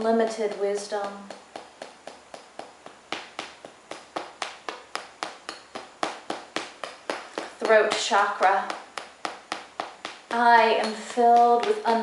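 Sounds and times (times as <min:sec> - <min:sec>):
small hammer tapping: 0:00.2 - 0:12.0.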